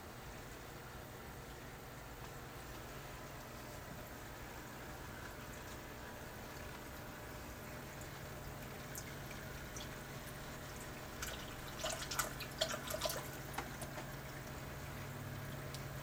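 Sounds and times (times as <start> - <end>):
aquarium filter hum: 0.0 - 16.0
trickling water: 0.3 - 16.0
drips and small splashes: 1.4 - 16.0.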